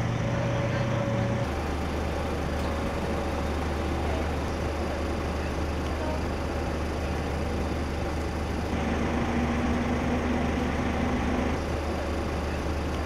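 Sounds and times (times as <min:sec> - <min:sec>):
street noise: 0:00.0 - 0:13.0
vehicle engines idling: 0:00.0 - 0:13.0.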